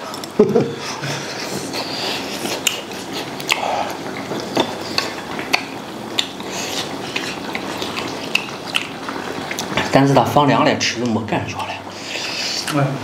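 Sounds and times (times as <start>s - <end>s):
gas stove hiss: 0.0s - 13.0s.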